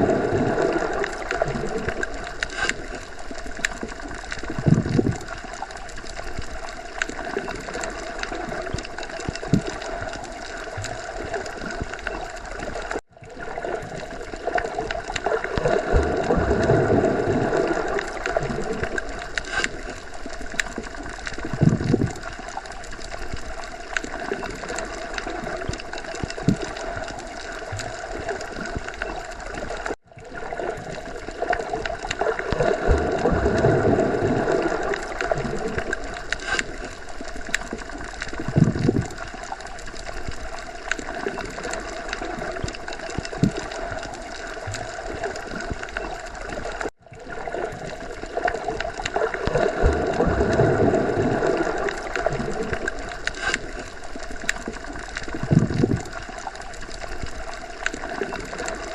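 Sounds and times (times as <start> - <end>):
muffled gurgling water: 0.0 - 58.9.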